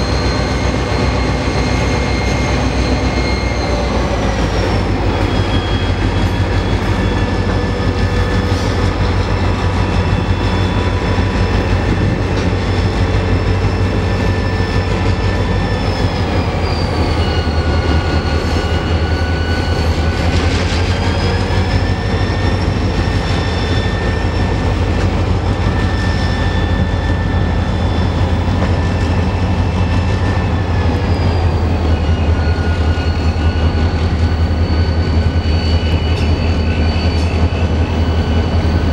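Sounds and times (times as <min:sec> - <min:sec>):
high wheel squeal: 0:00.0 - 0:38.9
train wagons rumbling on rails: 0:00.0 - 0:38.9.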